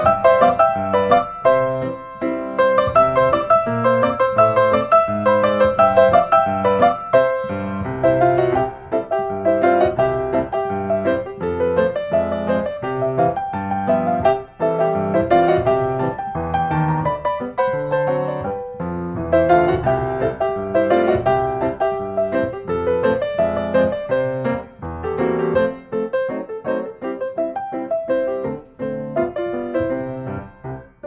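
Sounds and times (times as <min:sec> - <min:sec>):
instrumental piano music: 0:00.0 - 0:31.0.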